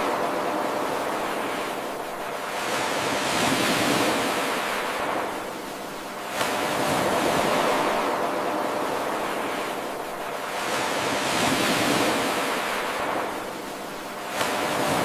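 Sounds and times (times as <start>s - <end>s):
ocean waves breaking: 0.0s - 15.0s.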